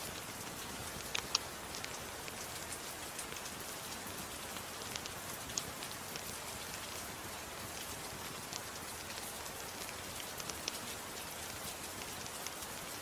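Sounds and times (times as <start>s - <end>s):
gentle rain hissing: 0.0s - 13.0s
rain drop ticks: 0.0s - 13.0s.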